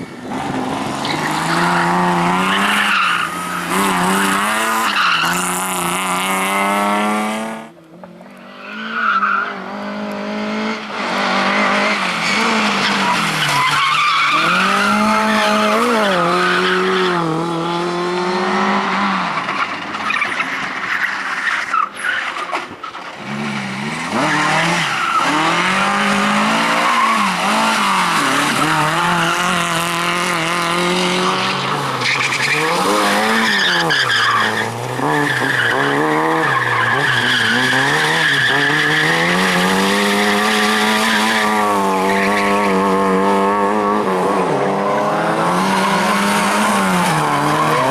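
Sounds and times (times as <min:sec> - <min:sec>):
tyres squealing on asphalt: 0:00.0 - 0:05.9, 0:08.4 - 0:09.8, 0:11.0 - 0:17.5, 0:18.7 - 0:43.4, 0:44.2 - 0:47.9
rally car engines revving: 0:00.0 - 0:47.9.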